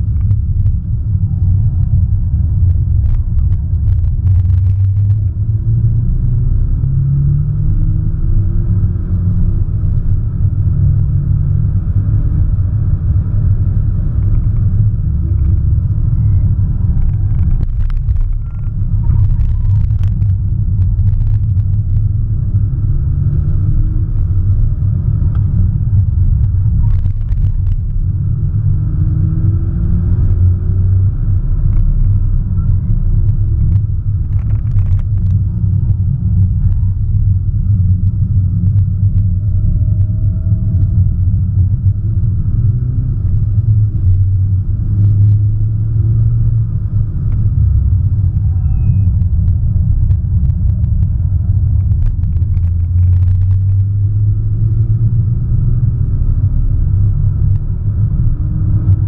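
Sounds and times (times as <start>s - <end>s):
car engine rumble from inside: 0.0s - 59.0s.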